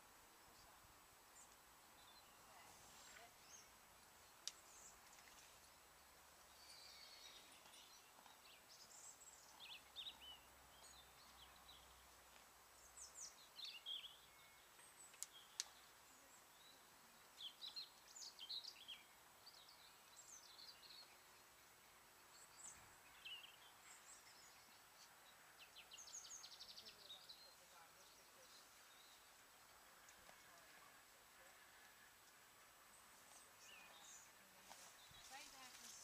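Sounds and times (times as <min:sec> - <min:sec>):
songbird chirps: 0:00.0 - 0:36.0.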